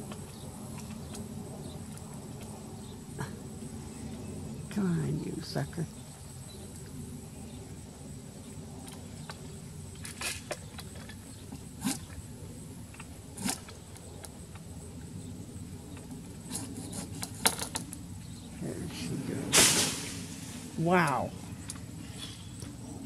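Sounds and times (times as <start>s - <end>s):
steady engine hum: 0.0s - 23.0s.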